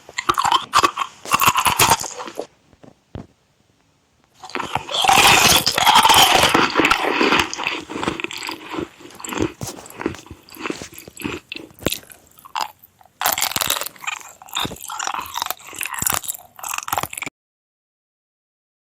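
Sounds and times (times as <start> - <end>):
irregular crunching and crackling: 0.0 - 3.4, 4.2 - 17.3.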